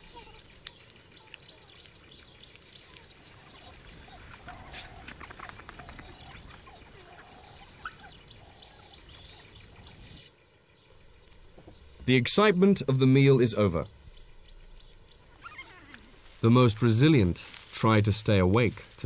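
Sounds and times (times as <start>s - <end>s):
faint chirping calls: 0.0s - 12.4s, 13.1s - 16.4s.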